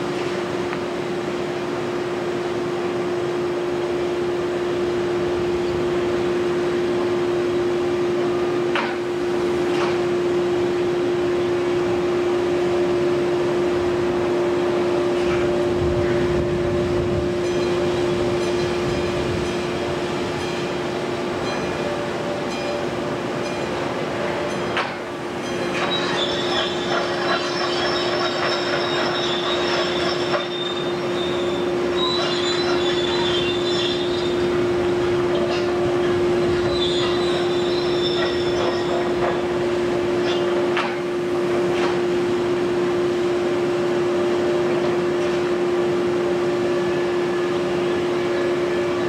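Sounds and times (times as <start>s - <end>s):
excavator diesel engines and hydraulics: 0.0s - 49.0s.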